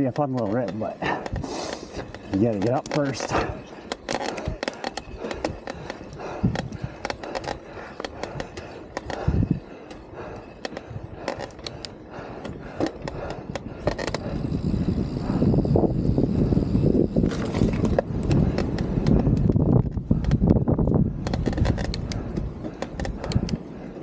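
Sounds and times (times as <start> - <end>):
bike clicks and rattles: 0.0 - 24.0
bike tyres on dirt trail: 0.0 - 24.0
wind on microphone: 1.1 - 24.0.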